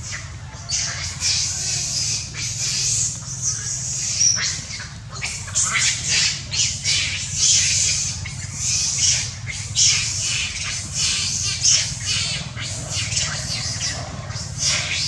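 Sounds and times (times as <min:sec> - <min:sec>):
harsh squawking animal calls: 0:00.0 - 0:15.0
low background rumble: 0:00.0 - 0:15.0.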